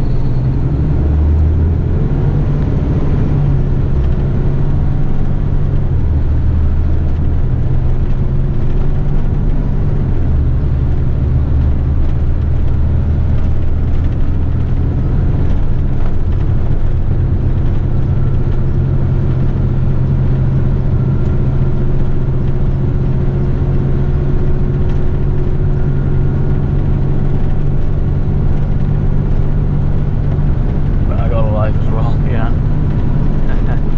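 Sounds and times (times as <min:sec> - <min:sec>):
diesel truck engine droning: 0:00.0 - 0:33.9
road rumble: 0:00.0 - 0:33.9.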